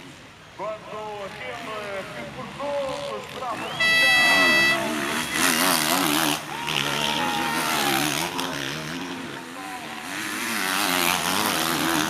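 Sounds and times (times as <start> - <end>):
motocross motorcycles revving: 0.9 - 12.0.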